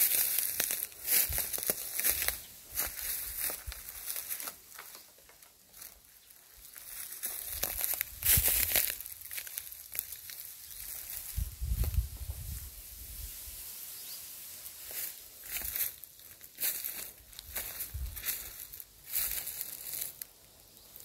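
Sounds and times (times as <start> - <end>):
dry leaves crunching underfoot: 0.0 - 21.0.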